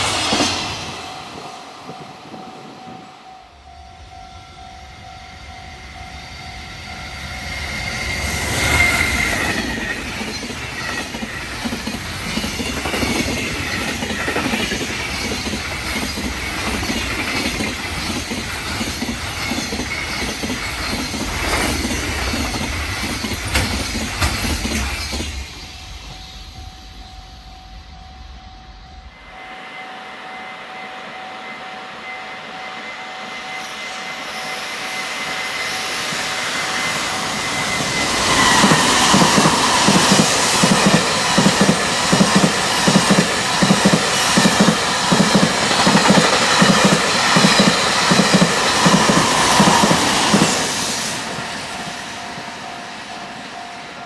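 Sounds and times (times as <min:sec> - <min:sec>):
crossing warning bell ringing: 0:00.0 - 0:24.2, 0:25.9 - 0:54.0.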